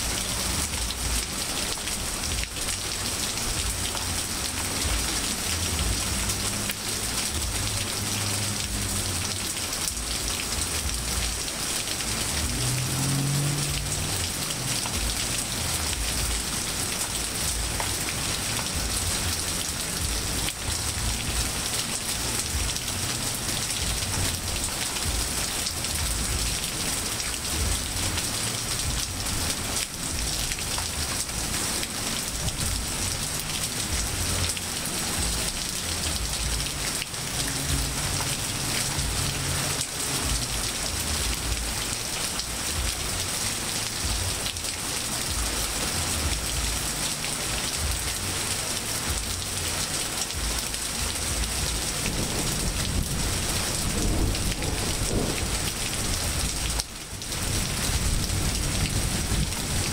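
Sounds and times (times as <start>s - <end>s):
rain falling on leaves and pavement: 0.0s - 59.9s.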